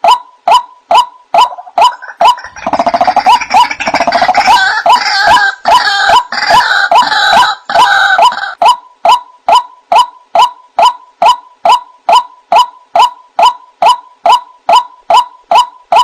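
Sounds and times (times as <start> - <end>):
waterhen croaking calls: 0.0 - 16.0.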